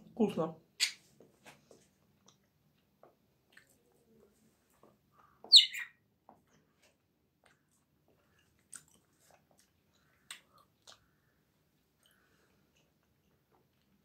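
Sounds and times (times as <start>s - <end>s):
person chewing food: 1.7s - 5.4s, 6.3s - 14.0s.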